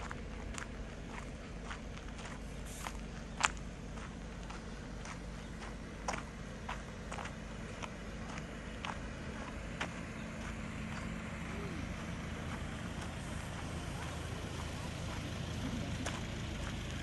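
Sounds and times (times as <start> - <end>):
vehicle rumbling on rough road: 0.0 - 17.0.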